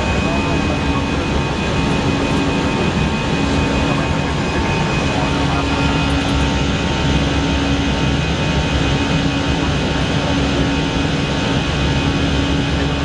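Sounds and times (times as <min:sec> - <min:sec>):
roar of engines and airflow: 0:00.0 - 0:13.0.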